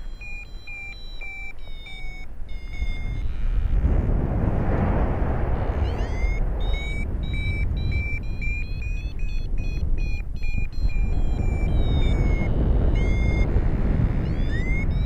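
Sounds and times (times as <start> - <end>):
variometer beeping: 0.0 - 3.8, 5.5 - 15.0
wind noise on microphone: 0.0 - 15.0.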